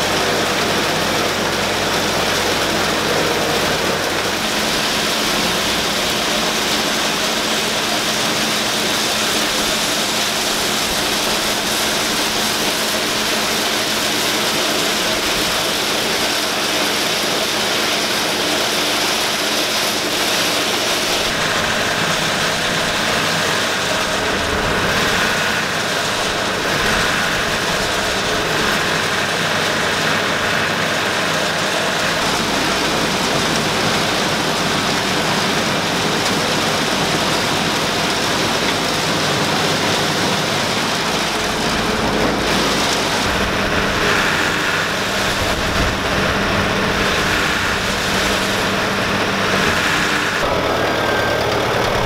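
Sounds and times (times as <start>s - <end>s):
silage blower rushing: 0.0s - 52.0s
tractor engine hum: 0.0s - 52.0s.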